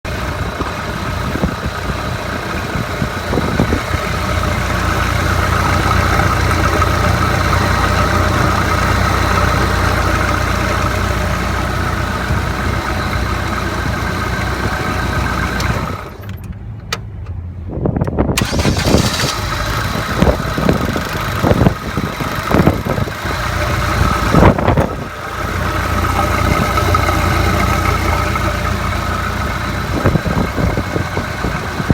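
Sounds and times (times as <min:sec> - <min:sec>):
small engine running unevenly: 0:00.1 - 0:16.4, 0:18.4 - 0:31.9.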